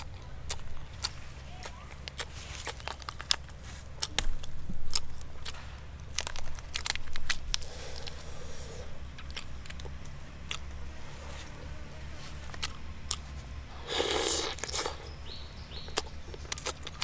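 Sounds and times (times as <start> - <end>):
crunchy biting and chewing: 0.0 - 17.0.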